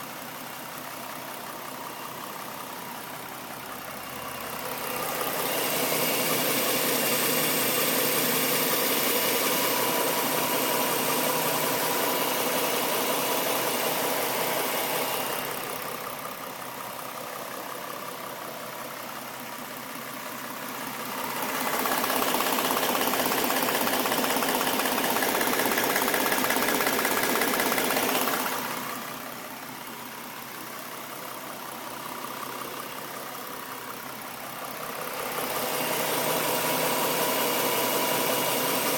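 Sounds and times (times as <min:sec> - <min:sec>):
car engine idling: 0:00.0 - 0:38.9
engine knocking: 0:00.1 - 0:38.9.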